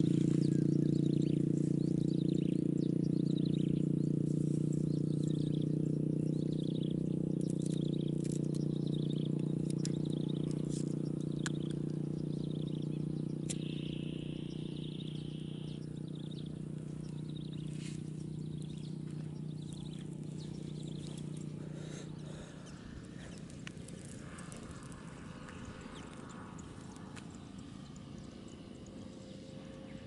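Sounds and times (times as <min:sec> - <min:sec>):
buzzy bird trill: 0:00.0 - 0:26.8
birds chirping trills: 0:00.0 - 0:30.0
steady low drone: 0:00.0 - 0:30.0.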